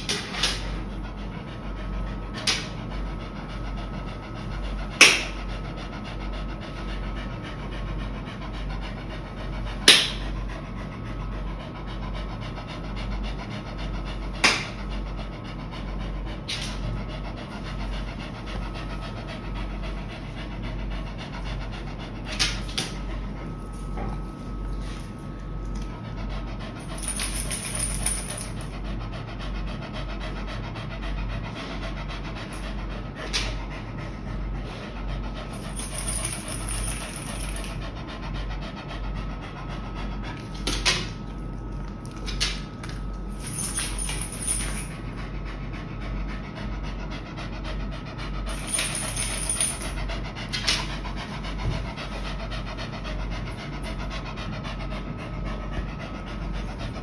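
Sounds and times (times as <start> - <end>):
dog panting: 0.3 - 41.8, 43.3 - 57.0.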